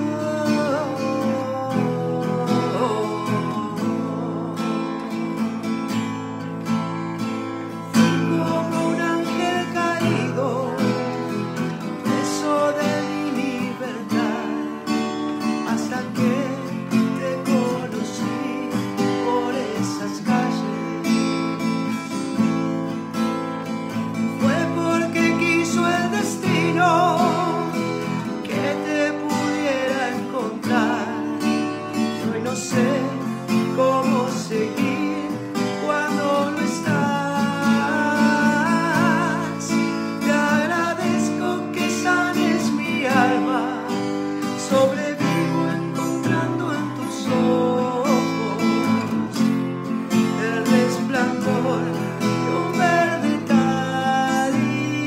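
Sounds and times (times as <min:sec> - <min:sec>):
man singing: 0:00.0 - 0:06.2, 0:07.7 - 0:22.5, 0:23.9 - 0:55.0
strummed acoustic guitar: 0:00.0 - 0:55.0.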